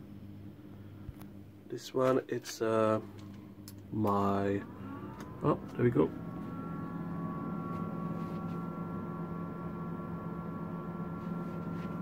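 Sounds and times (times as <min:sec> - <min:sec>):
faint high whine: 0:00.0 - 0:12.0
fridge low hum: 0:00.0 - 0:12.0.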